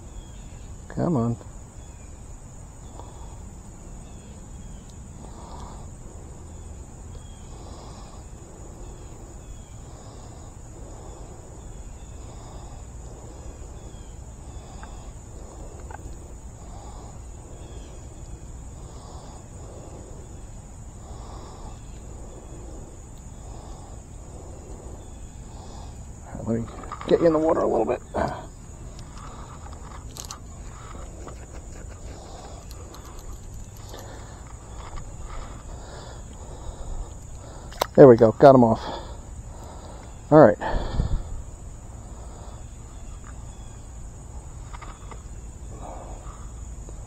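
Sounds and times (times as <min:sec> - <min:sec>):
high-pitched insect chorus: 0:00.0 - 0:47.0
low outdoor rumble: 0:00.9 - 0:47.0.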